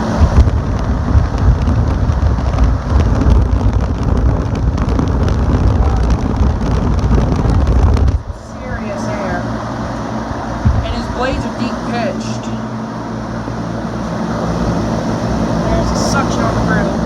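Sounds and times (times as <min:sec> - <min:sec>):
electric fan air rush: 0:00.0 - 0:17.0
wind buffeting microphone: 0:00.0 - 0:17.0.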